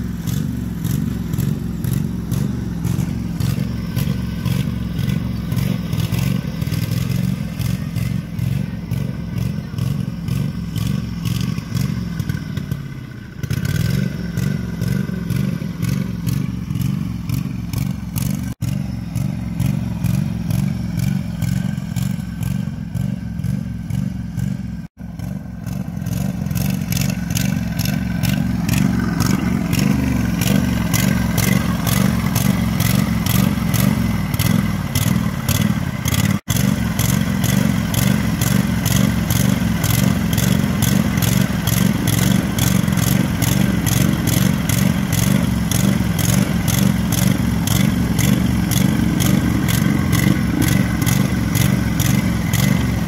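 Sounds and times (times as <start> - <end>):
lawn mower engine running: 0.0 - 53.0.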